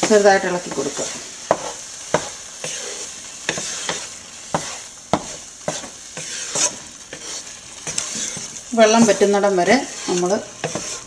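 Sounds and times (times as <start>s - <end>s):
faint sizzle: 0.0s - 11.0s
wooden spatula scraping metal pan: 0.0s - 11.0s.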